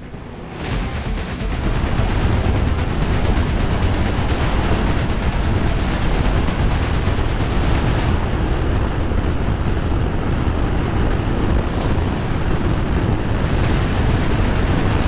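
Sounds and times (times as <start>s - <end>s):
wind buffeting microphone: 0.0s - 15.0s
motorcycle running: 0.6s - 15.0s.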